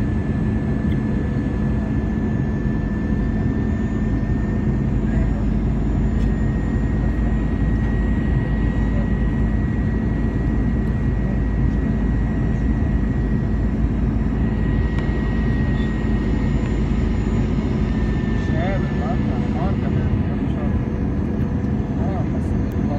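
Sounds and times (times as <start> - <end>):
faint high whine: 0.0 - 22.9
jet engine and airflow rush: 0.0 - 22.9
low hum: 1.8 - 22.9.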